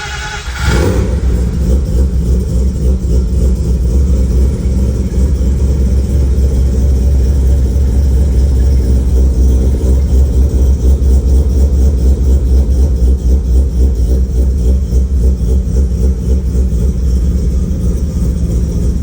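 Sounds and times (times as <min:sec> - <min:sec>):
rotary engine idling: 0:00.0 - 0:19.0.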